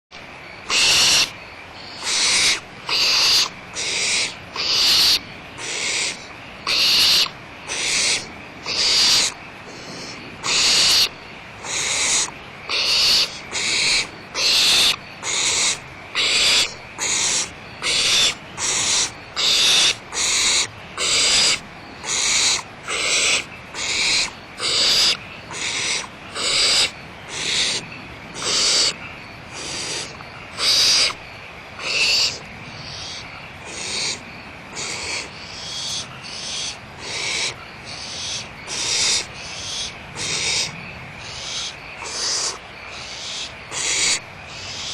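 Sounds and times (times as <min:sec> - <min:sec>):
owls giving rasping hiss calls: 0:00.6 - 0:31.2, 0:31.8 - 0:44.9.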